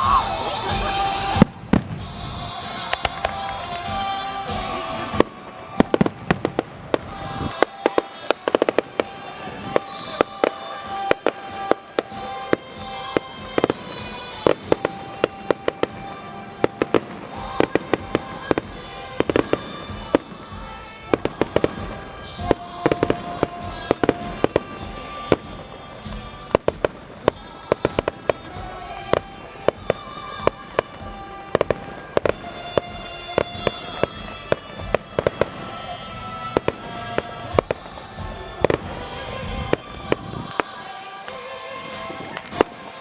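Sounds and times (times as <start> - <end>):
fireworks bangs and crackles: 0.0 - 43.0
music playing: 0.0 - 43.0.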